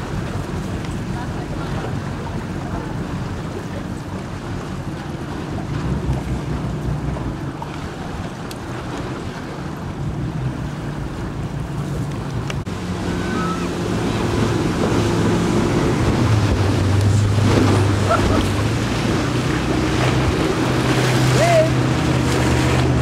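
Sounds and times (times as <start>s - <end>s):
low motor hum: 0.0s - 23.0s
water noise: 0.0s - 23.0s
wind buffeting microphone: 0.0s - 23.0s.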